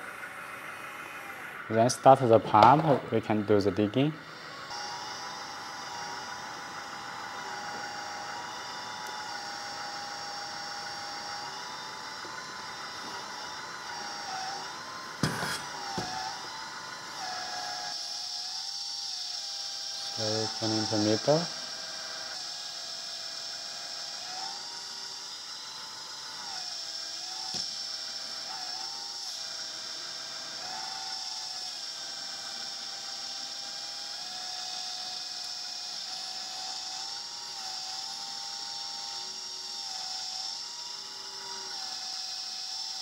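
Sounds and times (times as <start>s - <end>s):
hydraulic pump whining: 0.0s - 43.0s.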